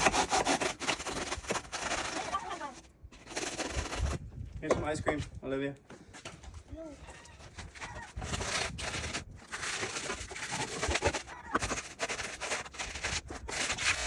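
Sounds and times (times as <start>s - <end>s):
scraping and rustling handling: 0.0s - 14.0s.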